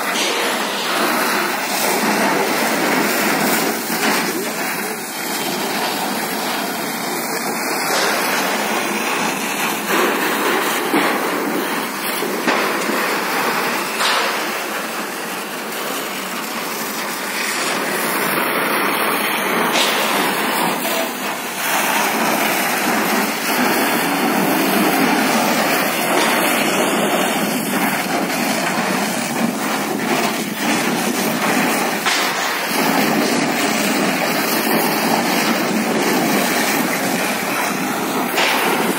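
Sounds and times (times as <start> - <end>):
fire hose water spraying: 0.0 - 38.9.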